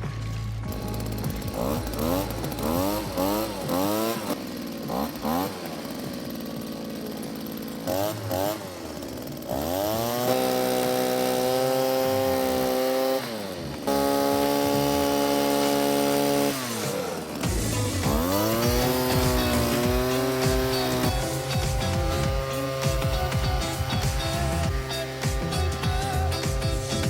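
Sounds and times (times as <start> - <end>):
blower engine revving: 0.0 - 27.0.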